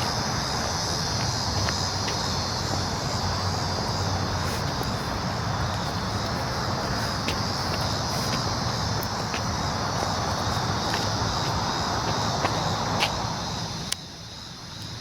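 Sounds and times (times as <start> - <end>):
cicadas buzzing: 0.0 - 15.0
steady low rumble: 0.0 - 15.0.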